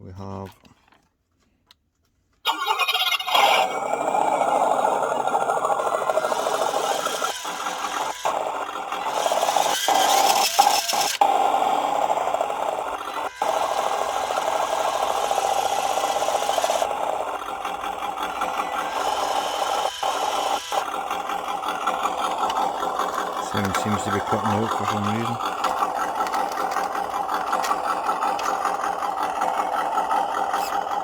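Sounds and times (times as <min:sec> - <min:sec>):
simulated engine drone from speaker: 0:03.7 - 0:10.2, 0:11.8 - 0:31.0.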